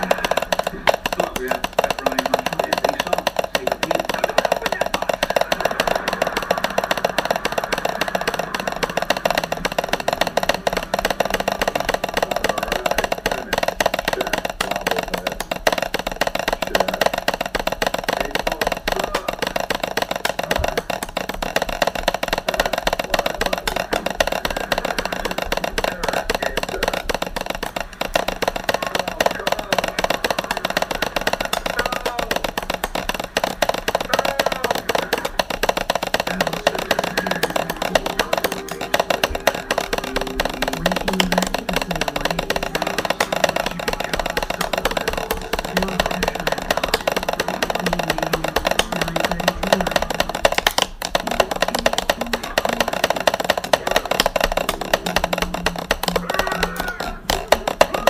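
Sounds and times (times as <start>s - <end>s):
chopsticks tapping on glass: 0.0s - 58.0s
chopsticks tapping on wood: 0.0s - 58.0s.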